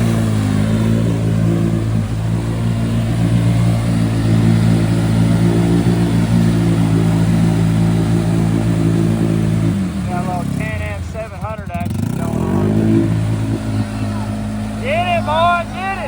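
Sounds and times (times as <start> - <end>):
atv engine running hard: 0.0 - 16.0.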